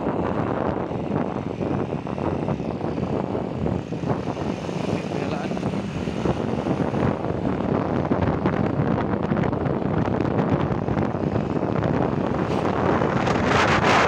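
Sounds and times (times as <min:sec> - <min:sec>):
wind buffeting microphone: 0:00.0 - 0:14.0
motorcycle engine running: 0:00.2 - 0:14.0.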